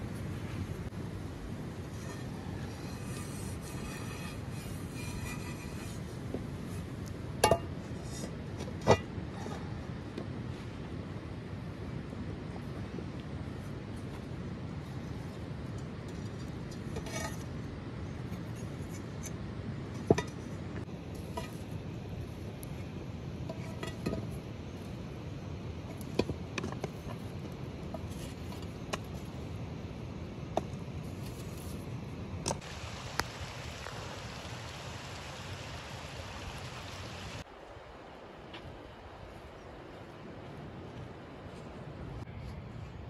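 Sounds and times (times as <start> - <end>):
steady low background noise: 0.0 - 43.0.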